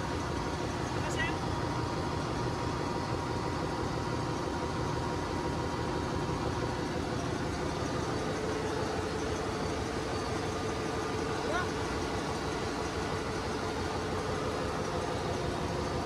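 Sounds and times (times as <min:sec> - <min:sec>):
faint machine whine: 0:00.0 - 0:16.0
machinery droning: 0:00.0 - 0:16.0.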